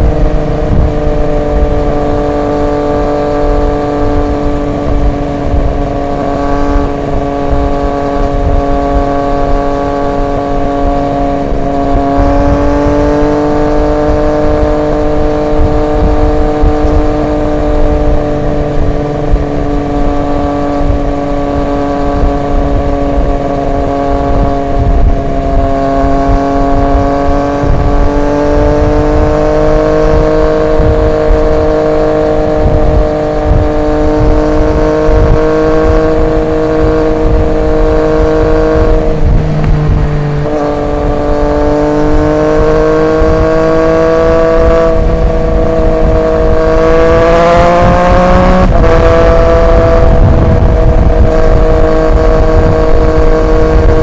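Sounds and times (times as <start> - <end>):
motorcycle engine revving: 0.0 - 54.0
wind and road rumble: 0.0 - 54.0.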